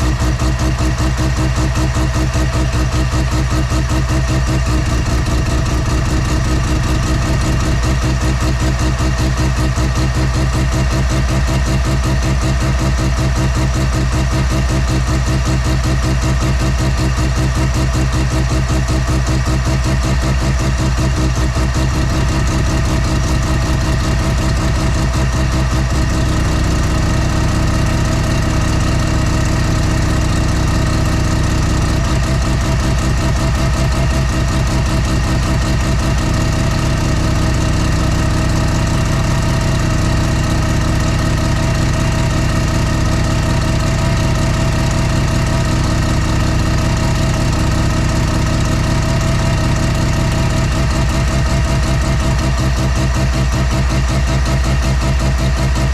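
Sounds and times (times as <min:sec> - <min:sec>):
rotary engine idling: 0:00.0 - 0:55.9.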